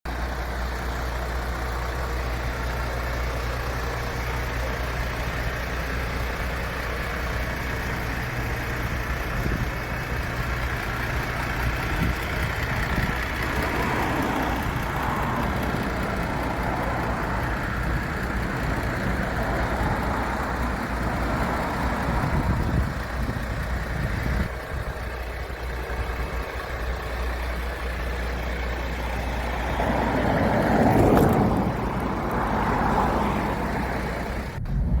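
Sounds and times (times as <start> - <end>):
diesel engine idling: 0.1 - 35.0.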